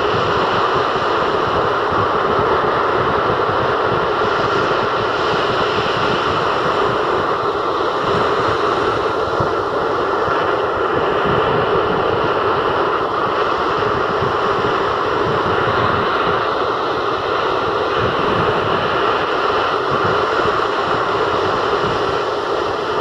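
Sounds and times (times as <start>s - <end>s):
surf breaking on a sandy shore: 0.0s - 23.0s.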